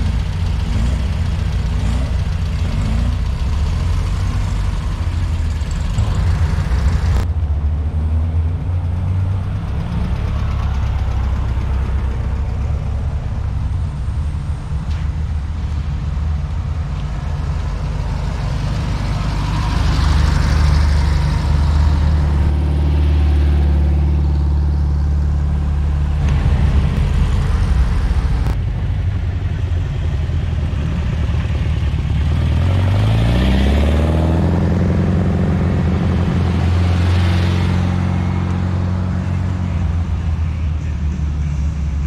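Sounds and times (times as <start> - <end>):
car accelerating: 0.0 - 40.4
cars driving past: 0.0 - 42.0.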